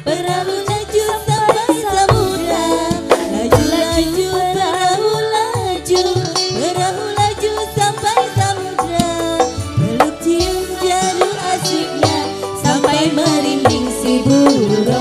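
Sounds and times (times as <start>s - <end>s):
drum strokes: 0.0s - 15.0s
live band accompaniment: 0.0s - 15.0s
woman singing into microphone: 0.0s - 15.0s.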